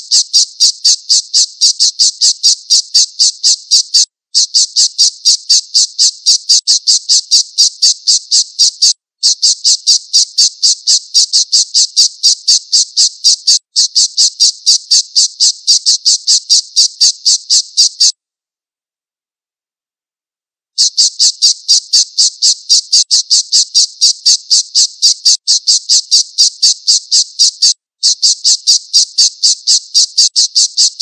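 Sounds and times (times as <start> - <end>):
kestrel calling: 0.0 - 18.1, 20.8 - 31.0.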